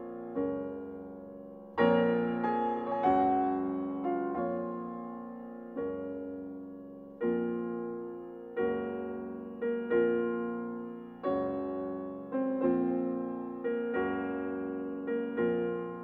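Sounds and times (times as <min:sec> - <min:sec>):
slow solo piano chords: 0:00.0 - 0:16.0.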